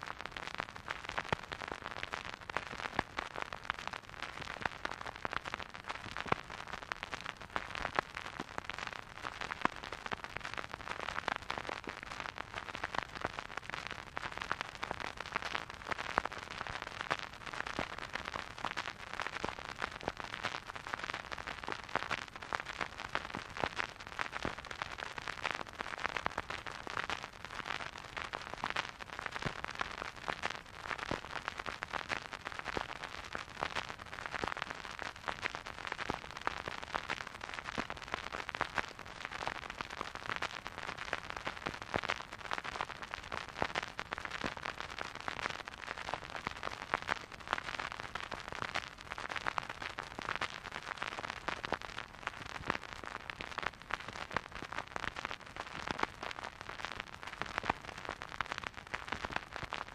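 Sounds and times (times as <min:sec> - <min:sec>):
vinyl record crackle and pops: 0:00.0 - 0:59.9.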